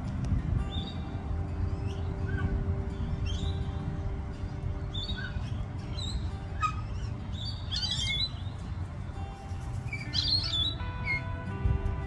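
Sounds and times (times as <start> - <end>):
calm background music: 0.0 - 12.0
birds chirping: 0.6 - 11.5.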